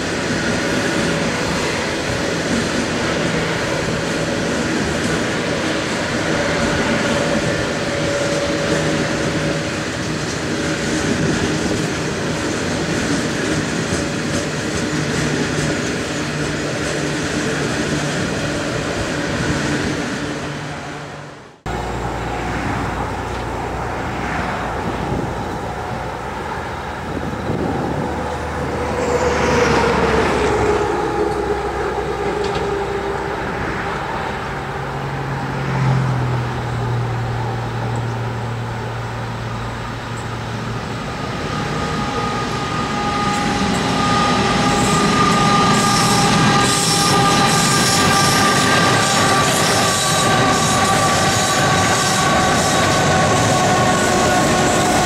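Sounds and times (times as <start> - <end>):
approaching locomotives falling pitch: 0.0 - 55.0
diesel locomotive engines under load: 0.0 - 55.0.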